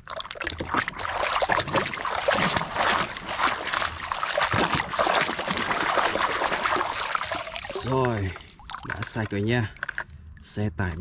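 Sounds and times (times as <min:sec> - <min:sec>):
water splashing in plastic basin: 0:00.0 - 0:10.1.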